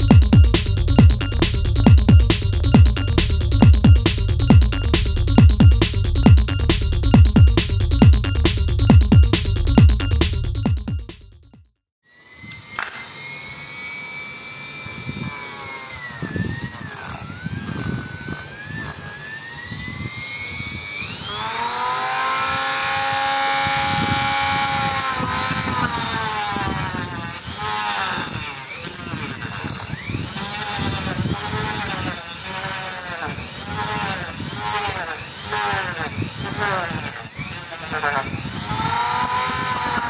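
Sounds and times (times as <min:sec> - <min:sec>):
circular saw motor whine: 0:00.0 - 0:10.5, 0:12.1 - 0:40.0.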